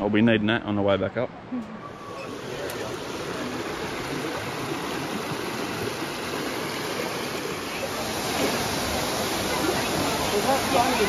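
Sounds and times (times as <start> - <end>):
waterfall rushing: 1.9 - 11.0.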